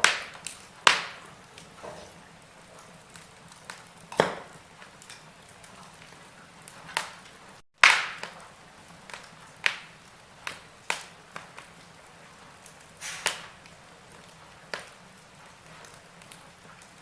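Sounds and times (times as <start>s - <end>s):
faint steady hiss: 0.0s - 17.0s
wood fire crackling and popping: 0.0s - 17.0s.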